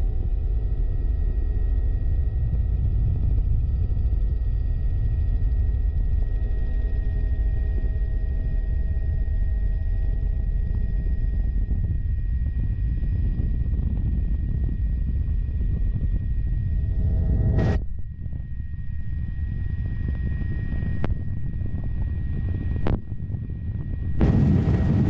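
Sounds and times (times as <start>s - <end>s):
helicopter rotor rumble: 0.0s - 25.0s
high turbine whine: 0.0s - 25.0s
low humming tones: 0.0s - 25.0s.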